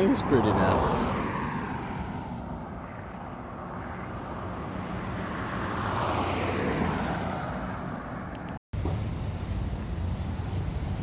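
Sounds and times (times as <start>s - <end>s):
road vehicle passing by: 0.0s - 11.0s.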